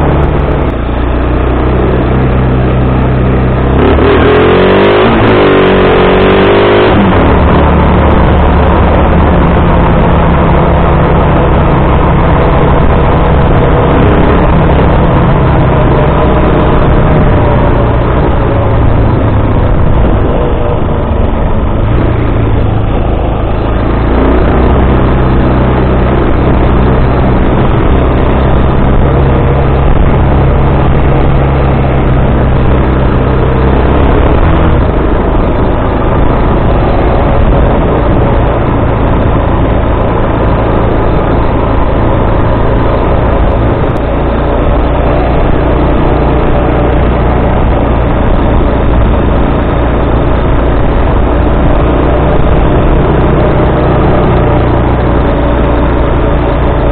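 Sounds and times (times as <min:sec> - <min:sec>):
quad bike engine revving: 0:00.0 - 0:56.9.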